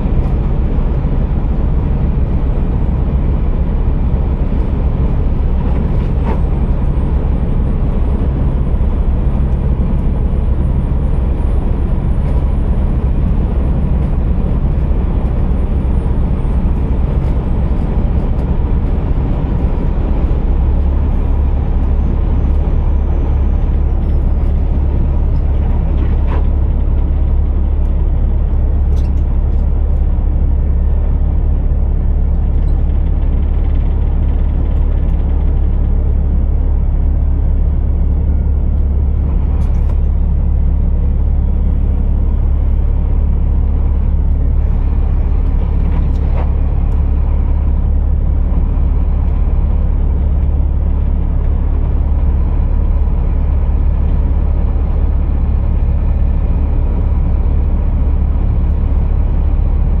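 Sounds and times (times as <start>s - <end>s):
truck diesel engine droning: 0.0s - 60.0s.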